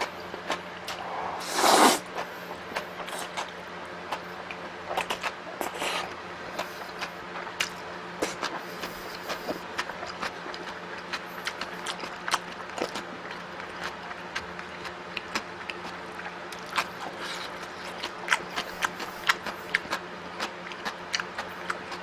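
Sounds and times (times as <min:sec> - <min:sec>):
steady low hum: 0:00.0 - 0:22.0
chewing clicks and smacks: 0:02.8 - 0:06.0, 0:06.6 - 0:22.0.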